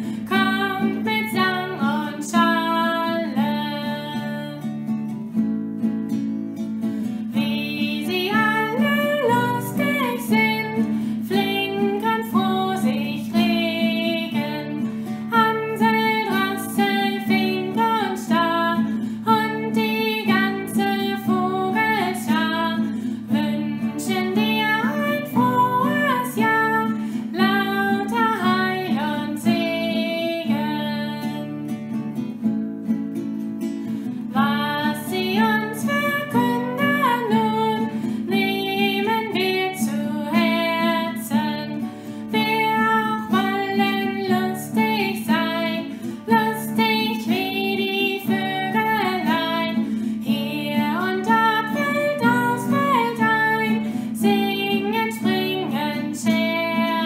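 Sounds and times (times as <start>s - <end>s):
woman singing children's song: 0.0s - 4.8s, 7.2s - 31.7s, 34.2s - 57.0s
strummed acoustic guitar: 0.0s - 57.0s.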